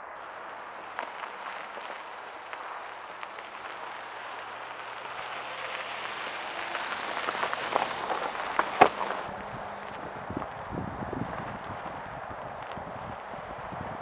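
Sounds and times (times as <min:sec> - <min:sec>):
tyres crunching over gravel: 0:00.2 - 0:14.0.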